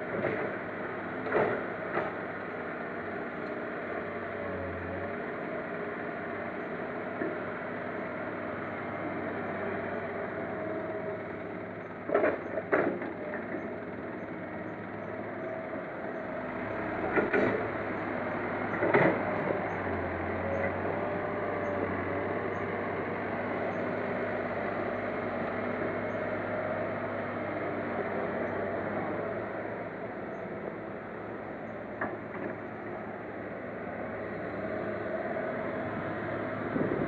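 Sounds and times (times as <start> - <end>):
diesel engines running: 0.0 - 37.0.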